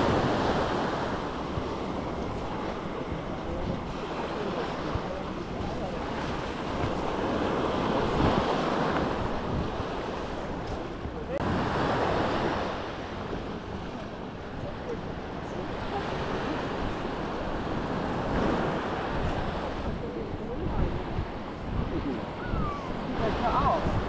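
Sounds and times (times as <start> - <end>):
sea waves breaking on beach: 0.0 - 24.0
wind buffeting microphone: 0.0 - 24.0.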